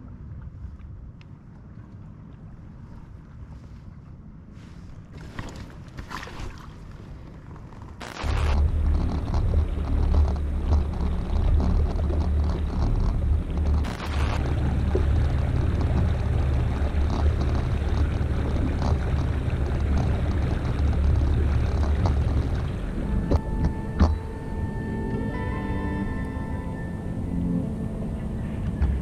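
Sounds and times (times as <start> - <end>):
wind and water rumble: 0.0 - 29.0.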